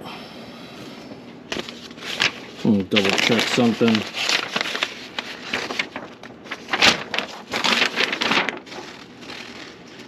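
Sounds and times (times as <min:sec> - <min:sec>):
packaging rustling and crinkling: 0:01.5 - 0:10.0.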